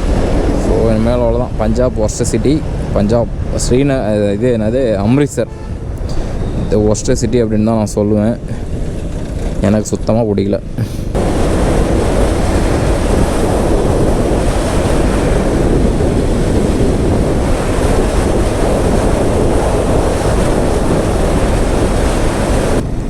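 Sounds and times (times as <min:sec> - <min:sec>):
wind rush on microphone: 0:00.0 - 0:23.0.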